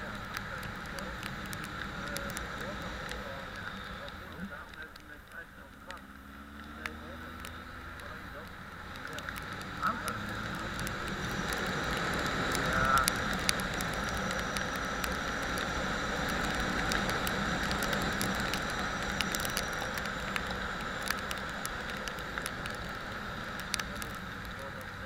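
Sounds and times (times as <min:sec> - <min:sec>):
small clicks: 0:00.0 - 0:25.0.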